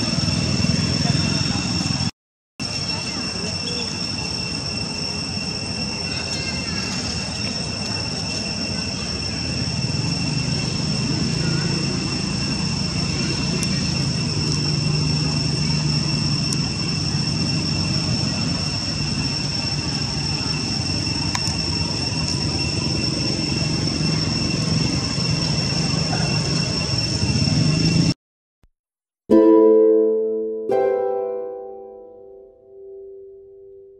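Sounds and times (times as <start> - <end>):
high-pitched insect drone: 0.0 - 28.2.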